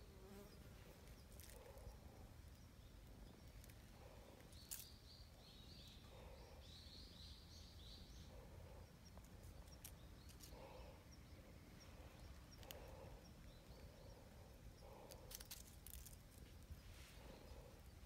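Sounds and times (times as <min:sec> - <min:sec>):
soft bird chirps: 0:00.4 - 0:18.0.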